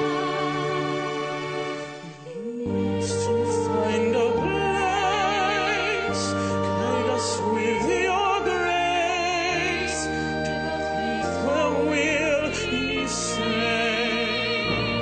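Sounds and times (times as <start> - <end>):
operatic singing with vibrato: 0.0 - 15.0
sustained backing music: 0.0 - 15.0.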